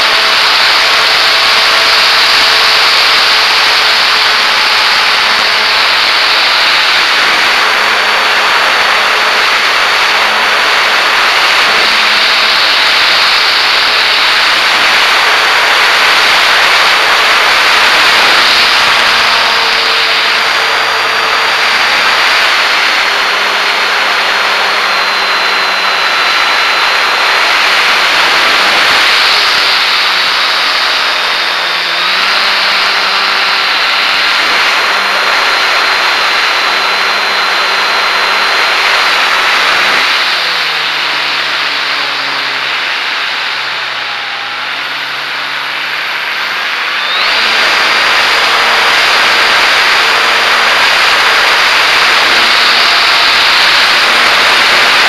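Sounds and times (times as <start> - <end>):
model plane motor whine: 0.0 - 55.0.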